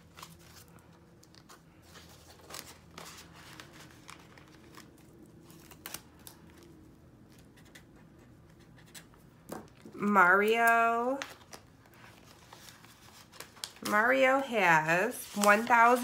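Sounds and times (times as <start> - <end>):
plastic and paper rustling: 0.0 - 16.0.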